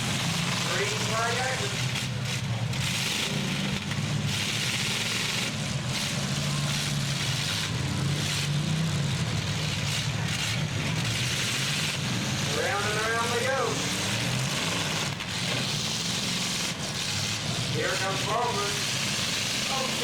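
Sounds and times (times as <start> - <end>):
truck engines droning: 0.0 - 20.0.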